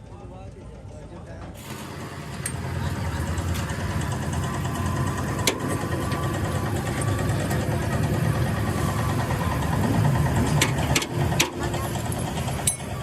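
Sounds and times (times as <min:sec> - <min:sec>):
engine idling: 0:01.6 - 0:13.0.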